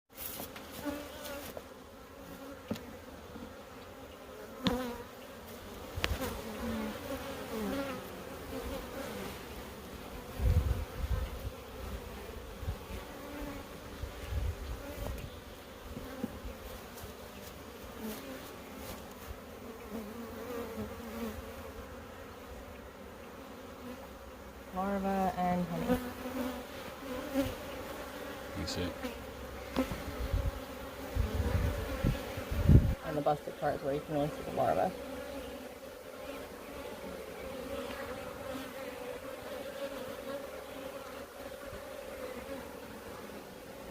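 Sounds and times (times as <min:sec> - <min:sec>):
bee buzzing close by: 0:00.1 - 0:43.9
bees buzzing: 0:00.2 - 0:43.9.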